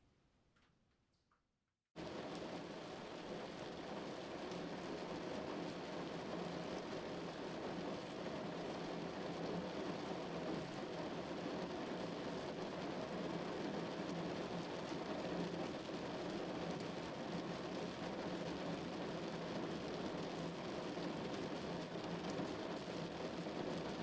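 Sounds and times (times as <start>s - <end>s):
rain on a car roof: 2.0s - 24.0s.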